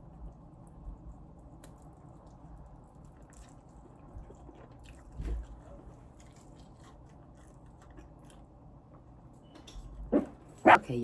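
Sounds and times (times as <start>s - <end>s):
chewing and crunching chicken wings: 0.0s - 9.3s.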